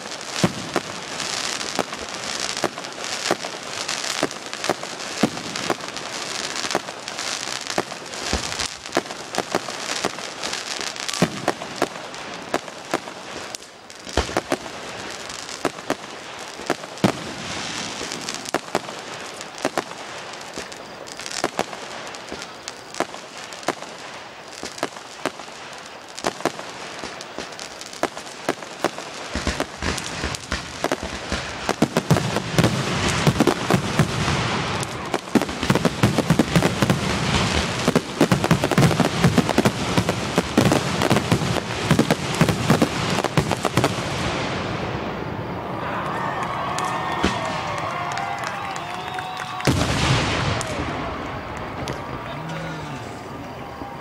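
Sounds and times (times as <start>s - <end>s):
fireworks popping and banging: 0.0s - 44.7s, 46.2s - 54.0s
crackling hiss of sparks: 0.0s - 54.0s.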